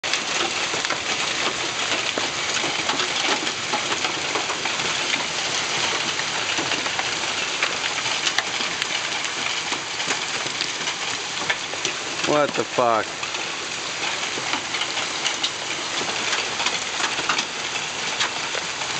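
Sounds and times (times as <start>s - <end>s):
hailstones striking ground: 0.0s - 18.9s
heavy rain: 0.0s - 18.9s.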